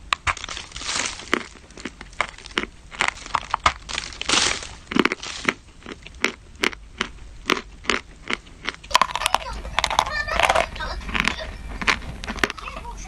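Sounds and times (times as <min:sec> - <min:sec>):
crunchy food being chewed: 0:00.0 - 0:13.0.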